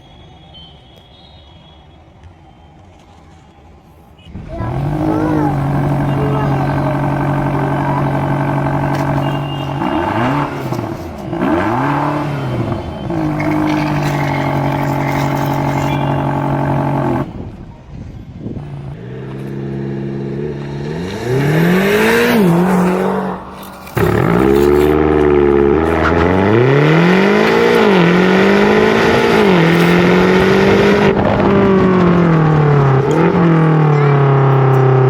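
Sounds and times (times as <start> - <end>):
vehicle engine revving: 4.3 - 35.0.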